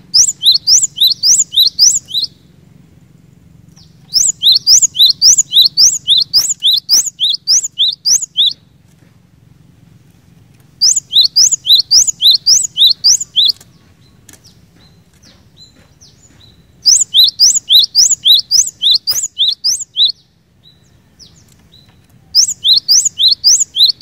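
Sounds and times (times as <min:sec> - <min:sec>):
soft bird notes: 0:00.0 - 0:02.5, 0:03.7 - 0:08.9, 0:10.1 - 0:24.0.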